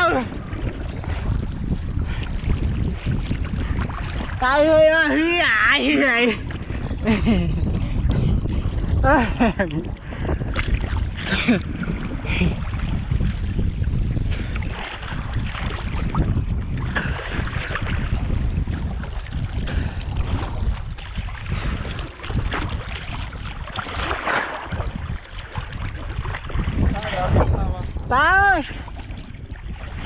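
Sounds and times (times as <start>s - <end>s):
sea water sloshing and splashing: 0.0s - 30.0s
wind buffeting microphone: 0.0s - 30.0s.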